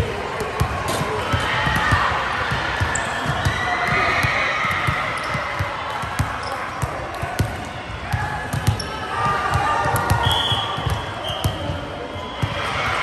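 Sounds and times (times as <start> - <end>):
echoing chatter of voices: 0.0 - 13.0.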